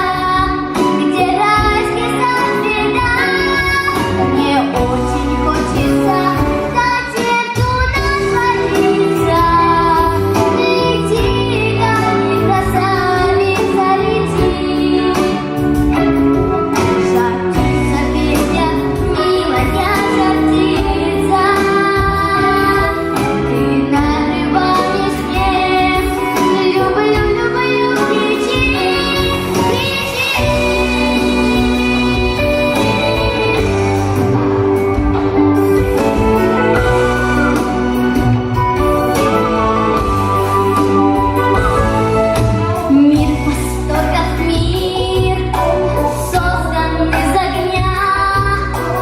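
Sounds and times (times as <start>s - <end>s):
girl singing: 0.0s - 33.8s, 42.9s - 49.0s
instrumental accompaniment: 0.0s - 49.0s.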